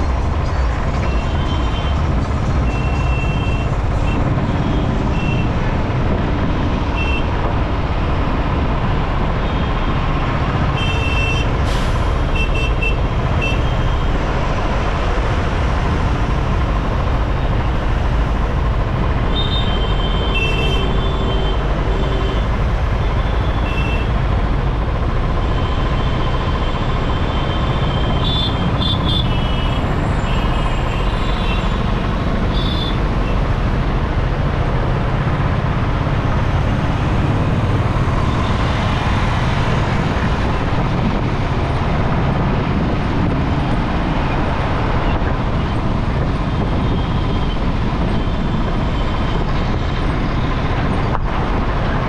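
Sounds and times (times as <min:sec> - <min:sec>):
wind and road noise: 0:00.0 - 0:52.0.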